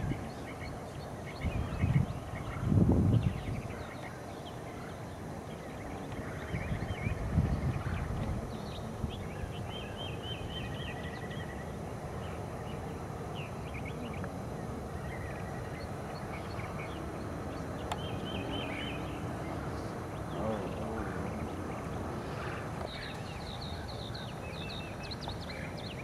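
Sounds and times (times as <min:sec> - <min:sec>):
songbirds chirping and trilling: 0:00.0 - 0:26.0
wind rumbling on microphone: 0:00.0 - 0:26.0.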